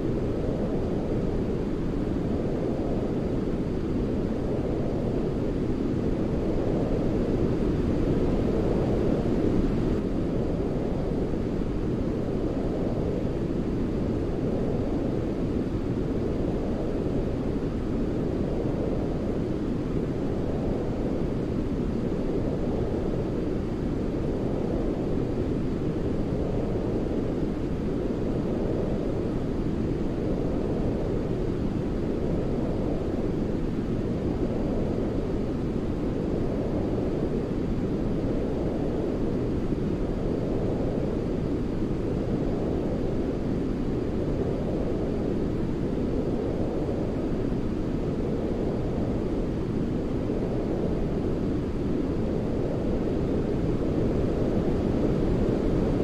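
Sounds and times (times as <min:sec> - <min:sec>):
deep low white noise: 0:00.0 - 0:56.0.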